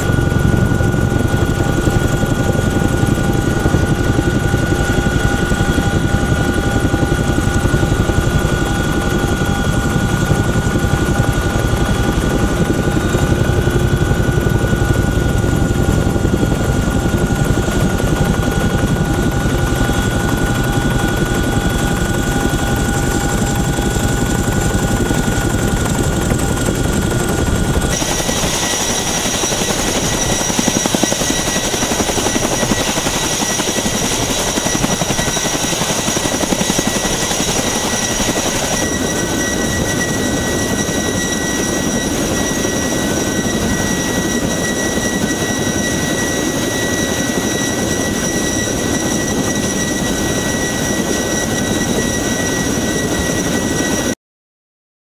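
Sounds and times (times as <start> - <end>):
steady high whines: 0.0 - 54.0
helicopter turbine and rotor: 0.0 - 54.2.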